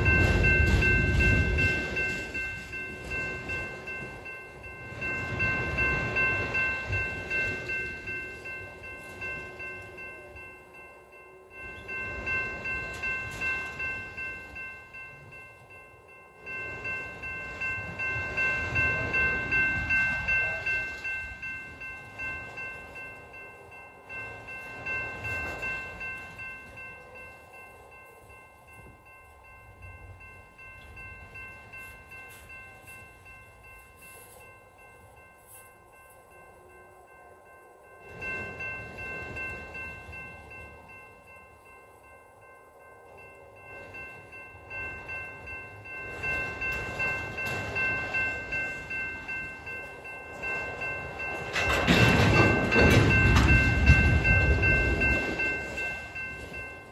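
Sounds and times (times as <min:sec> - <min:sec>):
freight train rumbling: 0:00.0 - 0:56.9
high-pitched ringing tone: 0:00.0 - 0:56.9
rhythmic clacking of train wheels: 0:00.0 - 0:56.9.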